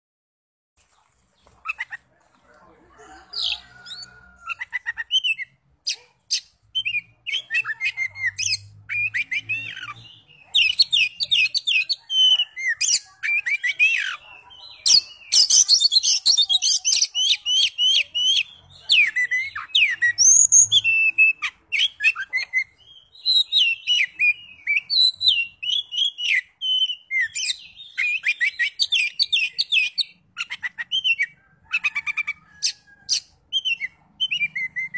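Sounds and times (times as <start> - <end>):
songbird whistling and chattering: 3.3 - 34.9.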